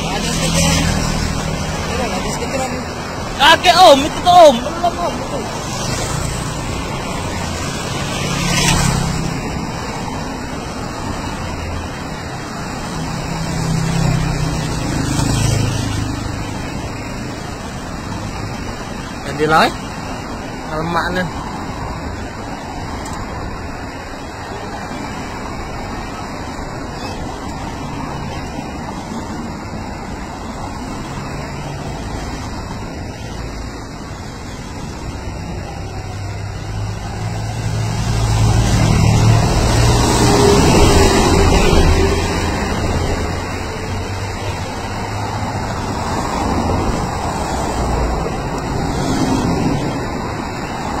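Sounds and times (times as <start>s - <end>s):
cars driving past: 0.0s - 51.0s.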